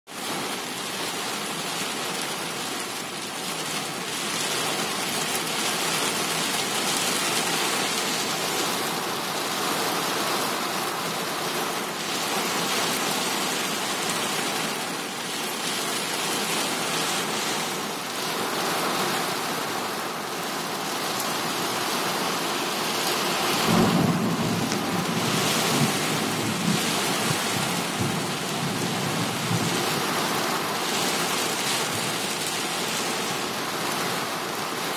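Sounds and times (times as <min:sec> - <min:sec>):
heavy rain drumming on car roof: 0:00.1 - 0:34.9.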